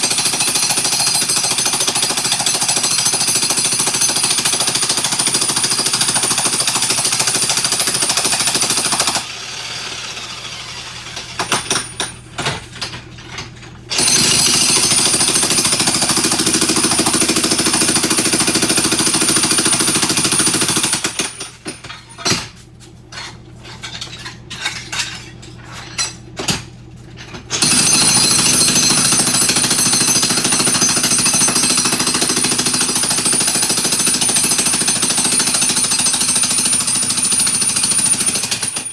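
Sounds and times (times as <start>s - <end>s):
jackhammer breaking tile: 0.0s - 12.9s, 13.9s - 22.4s, 27.5s - 38.9s.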